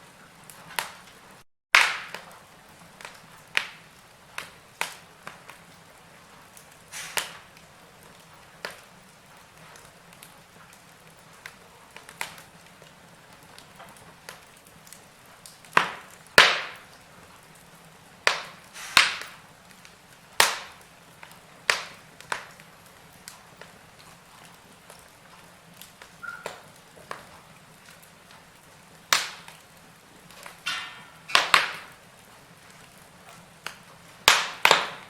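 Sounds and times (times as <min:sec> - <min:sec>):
faint steady hiss: 0:00.0 - 0:35.0
wood fire crackling: 0:00.0 - 0:35.0.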